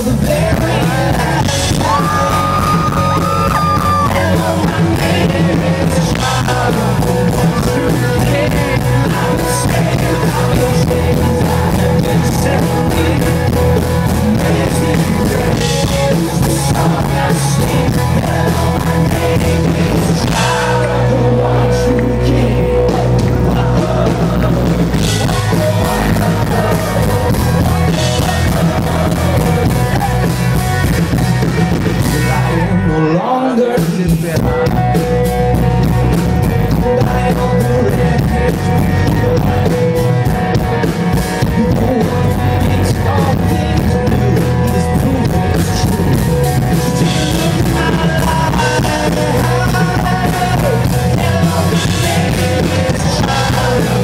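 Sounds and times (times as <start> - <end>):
drums: 0.0 - 54.0
electric guitars: 0.0 - 54.0
lead singer singing: 0.0 - 54.0.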